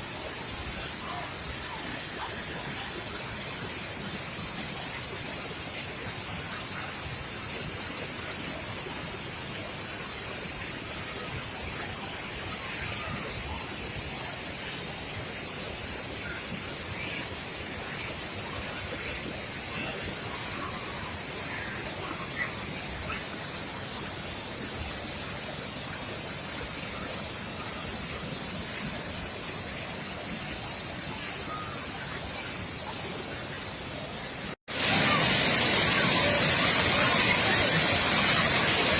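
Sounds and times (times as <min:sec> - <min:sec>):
waterfall rushing: 0:00.0 - 0:38.9
faint voices of people: 0:00.2 - 0:38.9.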